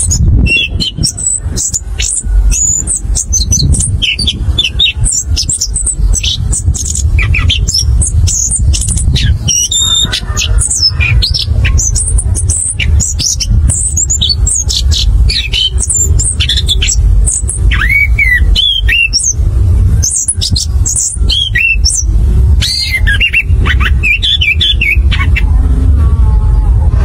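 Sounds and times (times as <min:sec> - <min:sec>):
low rumble: 0:00.0 - 0:27.0
thrush singing: 0:00.0 - 0:27.0.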